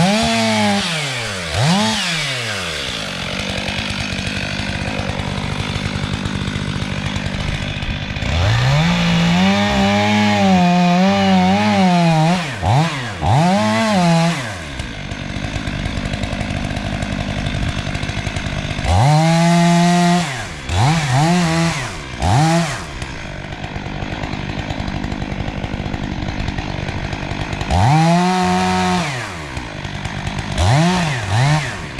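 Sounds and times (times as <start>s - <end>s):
chainsaw idling and revving: 0.0s - 31.9s.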